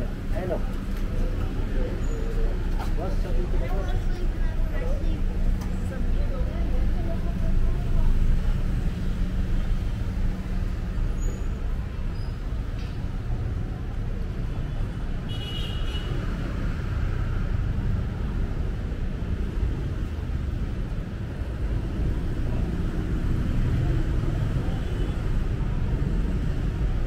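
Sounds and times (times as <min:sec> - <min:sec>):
traffic engines rumbling: 0:00.0 - 0:27.0.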